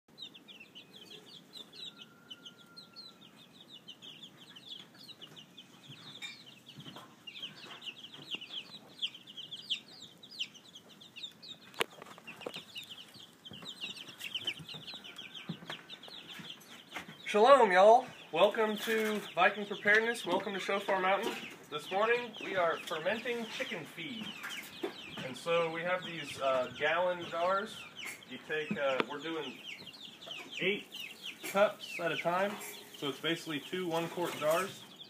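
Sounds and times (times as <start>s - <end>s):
chickens calling: 0.1s - 35.0s.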